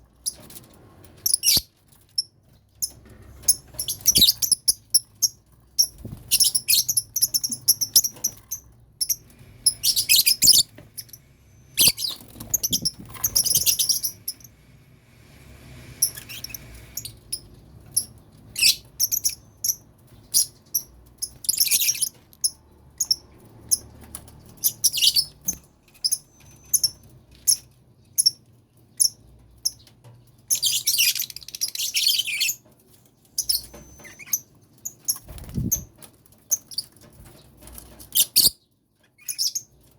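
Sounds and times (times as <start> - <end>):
lovebirds chirping and chattering: 0.2 - 14.6, 15.9 - 39.9.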